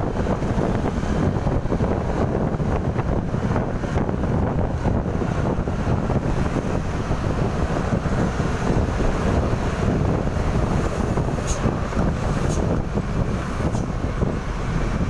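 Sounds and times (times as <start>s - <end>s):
steady vehicle noise: 0.0s - 15.0s
wind rumble on microphone: 0.0s - 15.0s.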